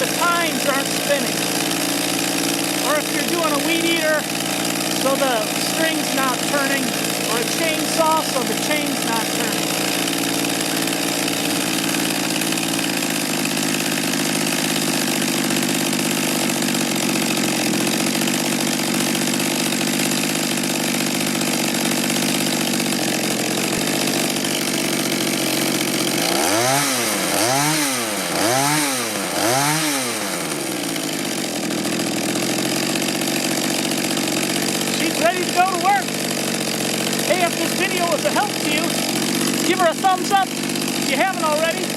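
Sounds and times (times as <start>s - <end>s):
tiller engine idling and revving: 0.0s - 41.9s.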